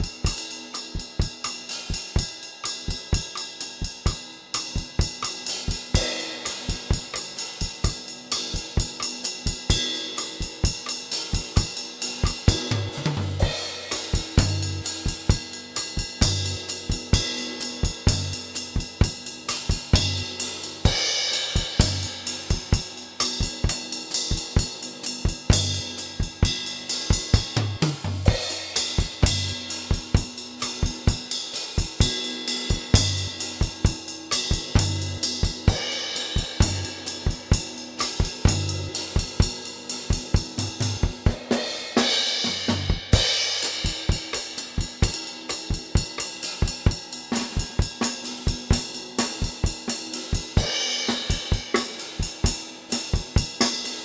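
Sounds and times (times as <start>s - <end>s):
acoustic drum kit groove: 0.0s - 54.0s.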